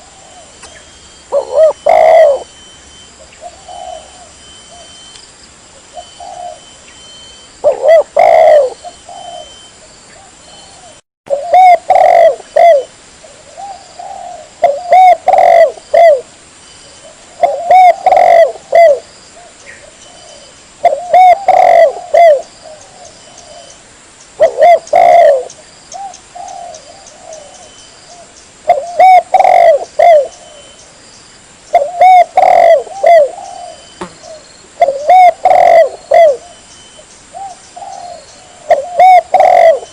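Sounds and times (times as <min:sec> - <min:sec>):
dove cooing: 0:00.0 - 0:02.6, 0:03.2 - 0:05.0, 0:05.8 - 0:06.8, 0:07.6 - 0:16.3, 0:17.0 - 0:23.8, 0:24.4 - 0:30.8, 0:31.7 - 0:36.6, 0:37.3 - 0:39.9.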